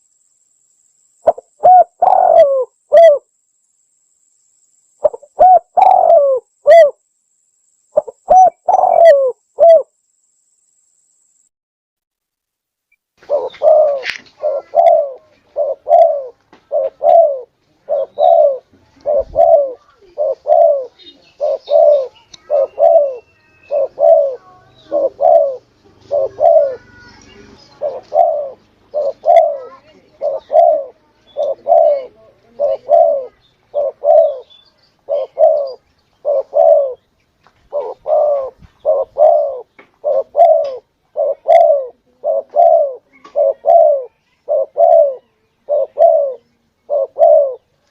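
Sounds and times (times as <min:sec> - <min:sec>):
dove cooing: 0:01.2 - 0:03.3, 0:05.0 - 0:07.0, 0:08.0 - 0:09.9, 0:13.2 - 0:37.0, 0:37.7 - 0:47.8.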